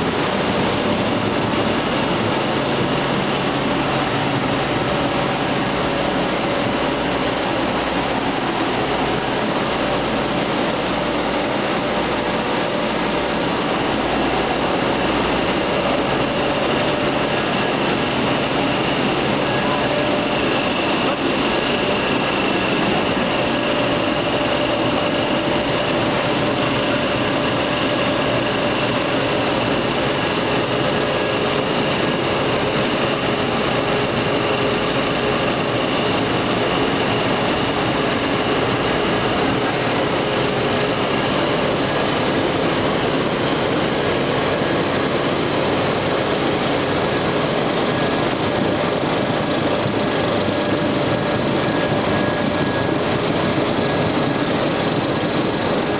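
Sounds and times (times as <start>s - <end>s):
industrial machinery drone: 0.0s - 55.9s
machine whining tones: 0.0s - 55.9s.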